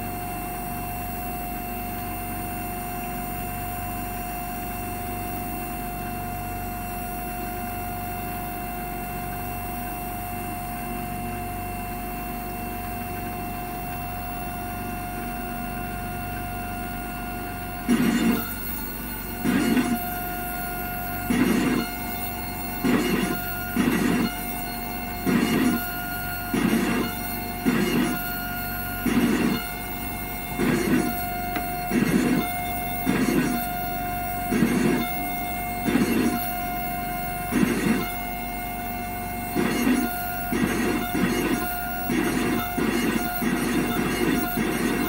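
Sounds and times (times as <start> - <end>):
milling machine motor whine: 0.0 - 45.0.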